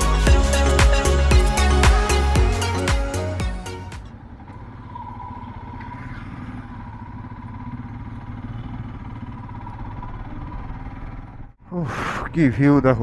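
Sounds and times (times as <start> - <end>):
high engine whine: 0.0 - 11.6
motorcycle engine rumble: 0.0 - 13.0.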